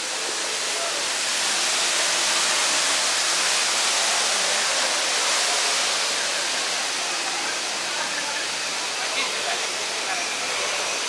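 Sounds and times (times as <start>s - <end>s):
hiss of rushing water: 0.0s - 11.0s.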